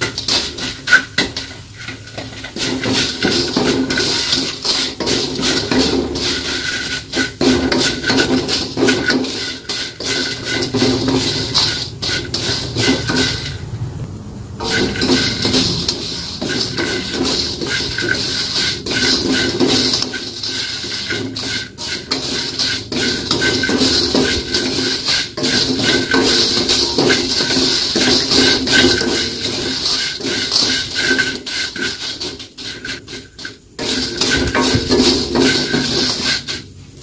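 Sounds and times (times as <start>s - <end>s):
wooden spatula scraping a metal wok: 0.0s - 13.7s, 14.6s - 37.0s.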